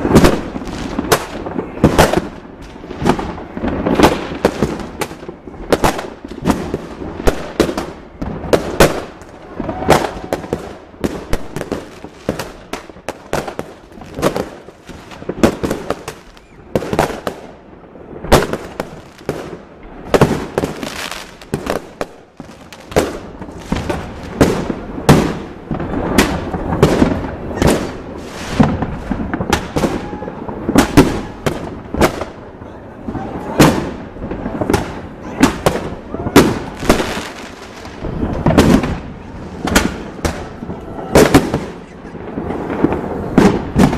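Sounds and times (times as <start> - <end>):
fireworks bangs and pops: 0.0 - 43.9.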